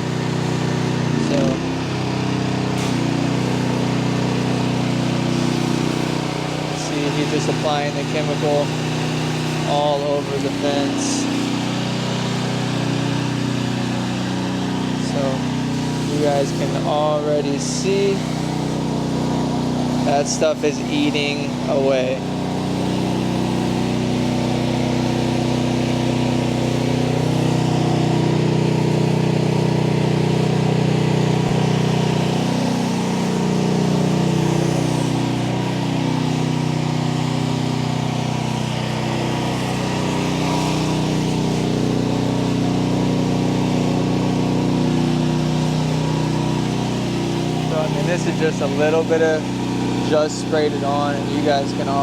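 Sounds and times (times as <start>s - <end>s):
pressure washer engine running: 0.0s - 52.0s.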